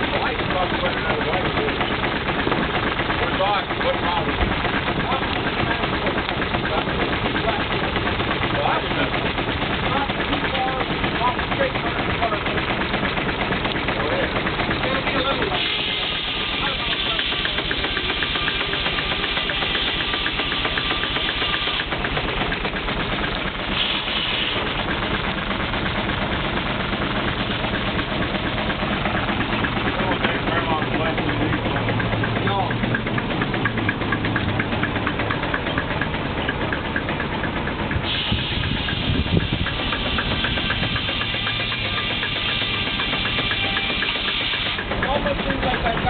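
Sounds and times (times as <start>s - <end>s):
steam engine mechanical ticking: 0.0s - 46.0s
steam hissing: 0.0s - 46.0s.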